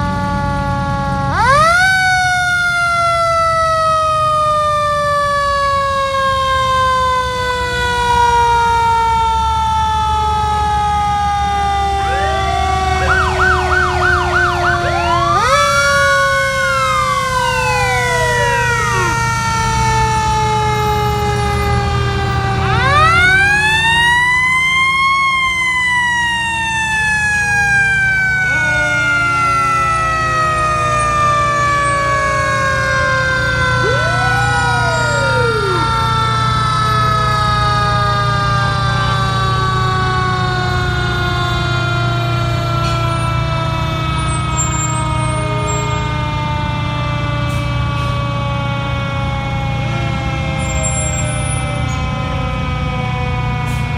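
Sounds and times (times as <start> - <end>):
fire truck sirens wailing: 0.0 - 53.9
truck engines rumbling: 0.0 - 53.9.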